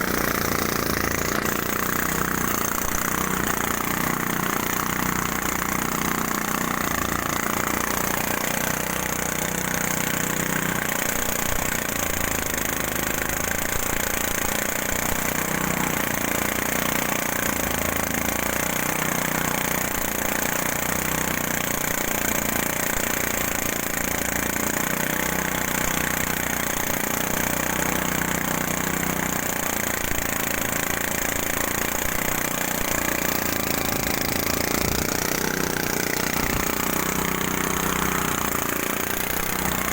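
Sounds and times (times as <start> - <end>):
threshing machine engine running: 0.0 - 39.9.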